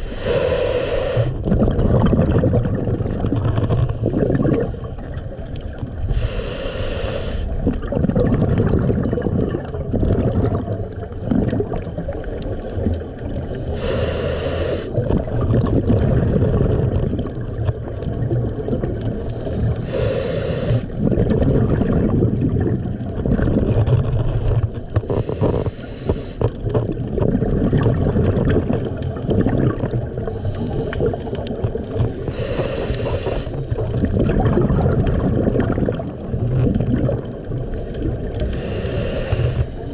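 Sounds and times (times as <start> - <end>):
low rumble of water: 0.0 - 39.9
regulator bubbles underwater: 0.0 - 39.9.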